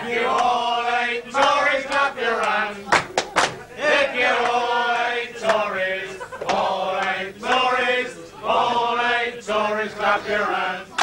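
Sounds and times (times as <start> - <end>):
men singing in unison: 0.0 - 3.1, 3.8 - 11.0.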